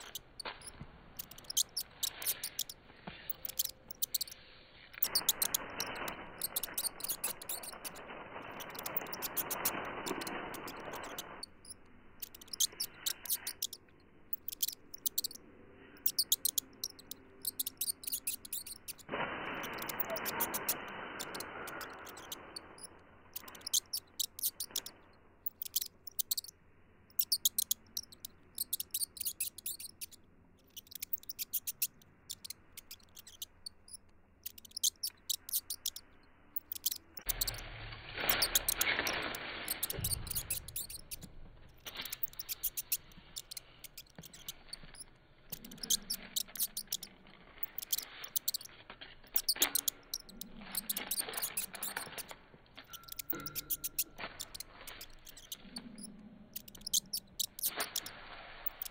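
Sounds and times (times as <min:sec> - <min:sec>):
rat squeaking: 0:00.0 - 0:58.9.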